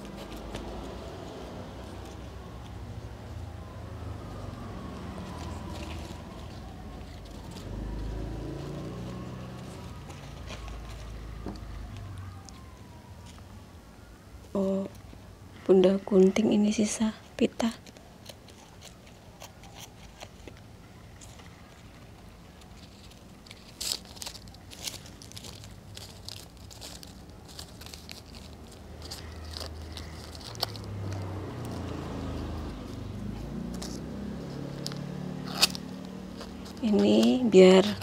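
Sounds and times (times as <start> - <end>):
ribbon and plastic crinkling: 4.6 - 13.6, 16.0 - 38.0.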